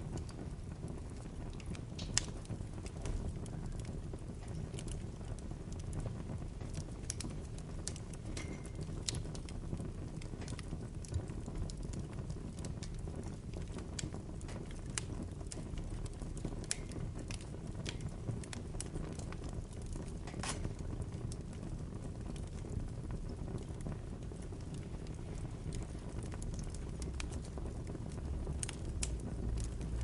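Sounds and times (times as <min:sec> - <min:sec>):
fire crackling and popping: 0:00.0 - 0:30.0
flames rumbling: 0:00.0 - 0:30.0.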